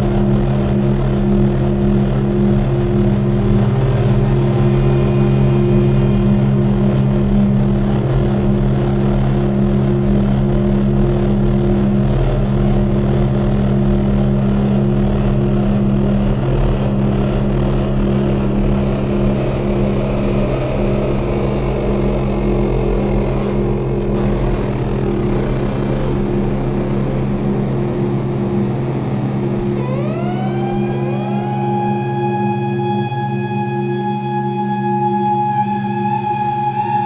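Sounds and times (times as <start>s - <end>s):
dense rumbling noise: 0.0s - 37.0s
low synthesizer drone tones: 0.0s - 37.0s.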